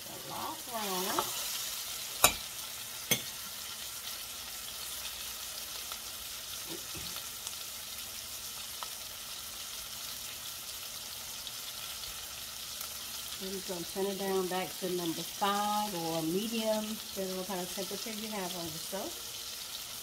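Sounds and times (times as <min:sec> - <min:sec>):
patties sizzling in a skillet: 0:00.0 - 0:20.0.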